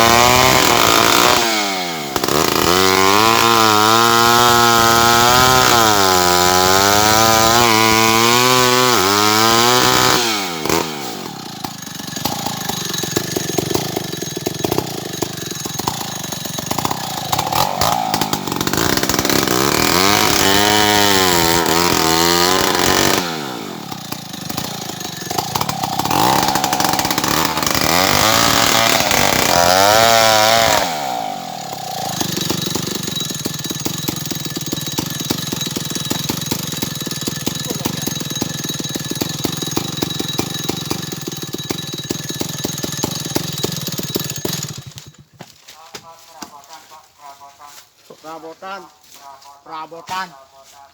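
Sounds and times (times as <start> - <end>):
chainsaw revving: 0.0 - 45.5.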